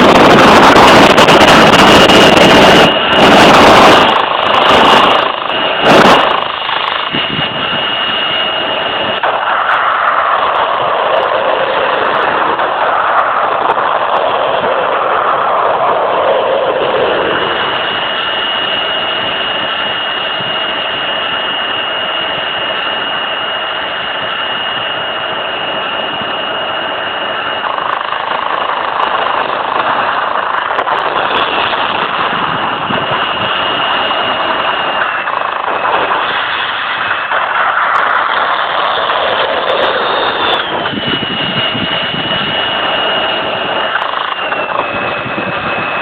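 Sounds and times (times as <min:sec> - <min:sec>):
jet engine whine and rush: 0:00.0 - 0:46.0.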